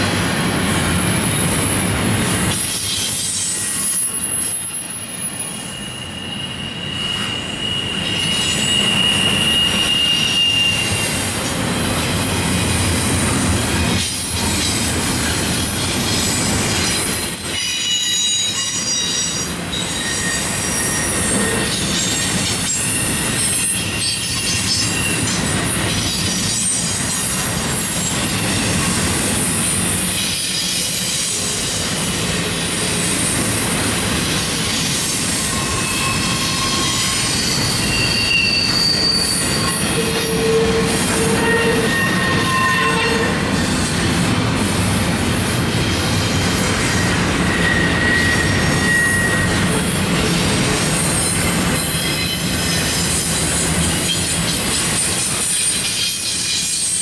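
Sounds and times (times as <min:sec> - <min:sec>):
rumble of wheels on track: 0:00.0 - 0:57.0
train wheels squealing on rails: 0:00.0 - 0:57.0.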